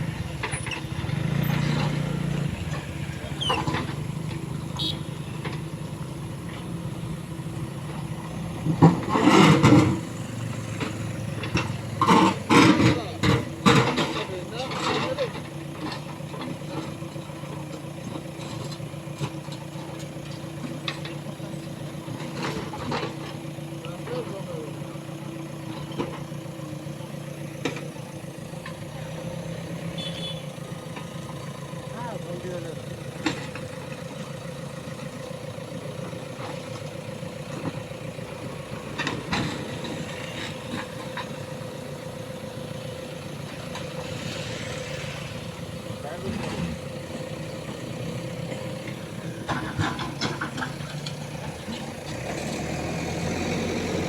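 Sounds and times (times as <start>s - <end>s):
diesel engine running at low revs: 0.0s - 54.0s.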